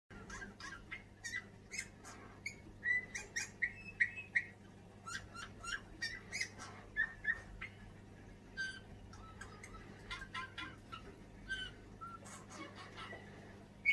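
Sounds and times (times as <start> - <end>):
creaky clicking bird calls: 0.1 - 13.9.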